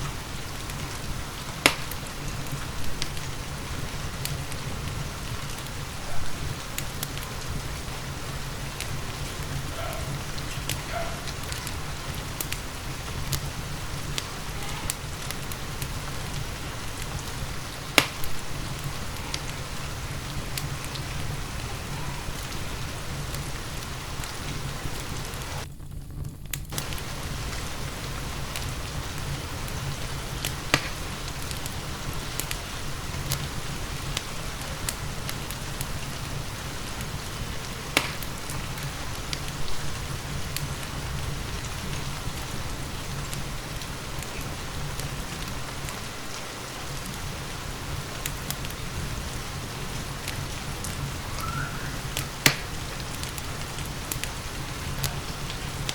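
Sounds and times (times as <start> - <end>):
steady rain: 0.0 - 55.9
wood fire crackling: 0.0 - 55.9.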